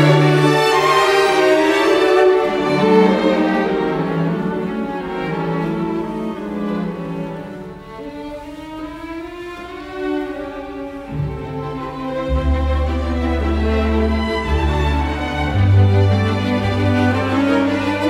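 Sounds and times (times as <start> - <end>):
bowed strings playing slow notes: 0.0 - 18.0.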